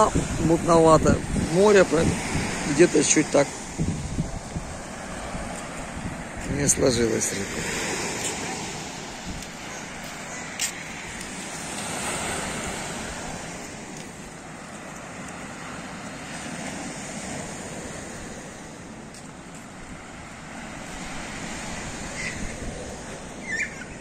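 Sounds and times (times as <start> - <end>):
wind on microphone: 0.0 - 14.5, 15.3 - 24.0
surf washing on sandy beach: 0.0 - 24.0.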